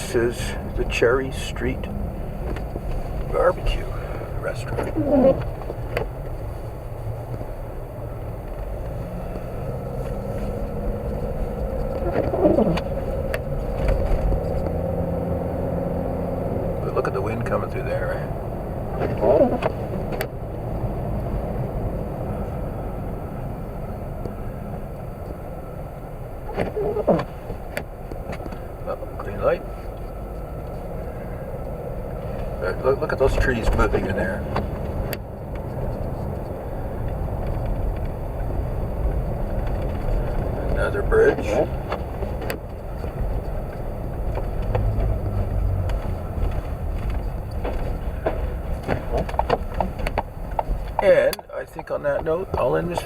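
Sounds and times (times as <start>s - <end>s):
car engine rumble: 0.0s - 53.0s
tyres on road: 0.0s - 53.0s.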